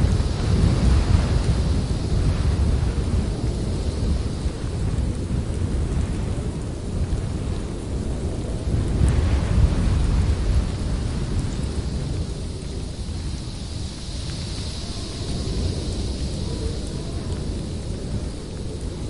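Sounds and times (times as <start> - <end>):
wind gusting against microphone: 0.0 - 19.0.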